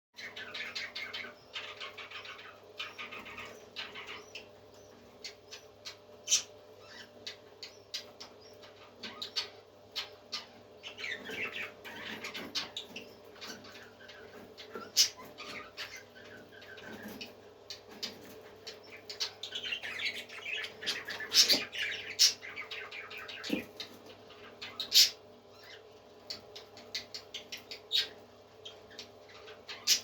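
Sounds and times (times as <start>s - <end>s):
parrots chirping: 0.2s - 30.0s
steady low hum: 0.2s - 30.0s.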